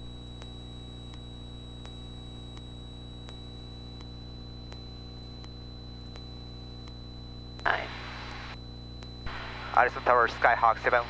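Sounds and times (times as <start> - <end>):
electrical hum and hiss: 0.0 - 11.0
thin high whine: 0.0 - 11.0
faint clicks: 0.3 - 9.5.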